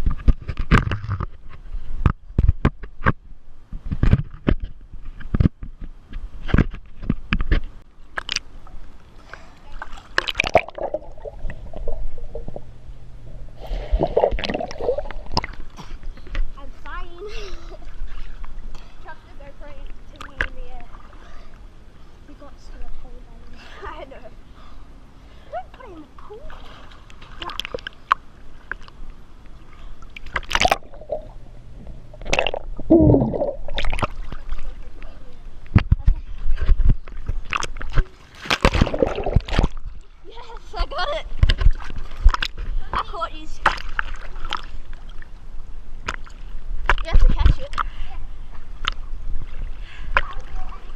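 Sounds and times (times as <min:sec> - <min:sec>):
water sloshing and splashing: 0:03.8 - 0:21.6, 0:25.4 - 0:50.9.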